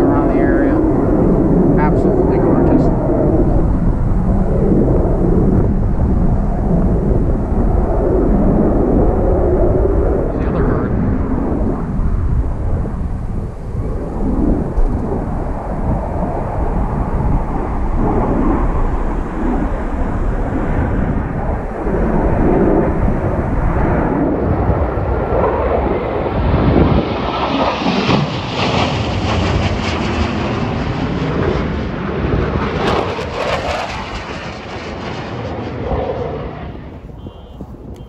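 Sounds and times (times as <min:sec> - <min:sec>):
jet aircraft roaring past: 0:00.0 - 0:38.0.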